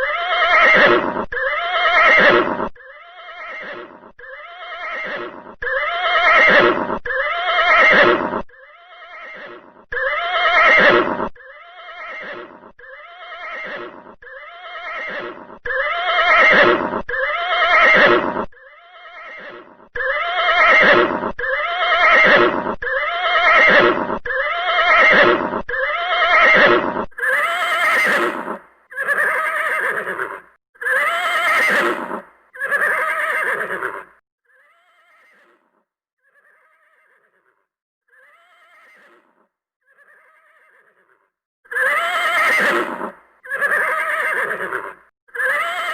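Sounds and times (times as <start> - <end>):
horse whinnying: 0.0 - 45.9.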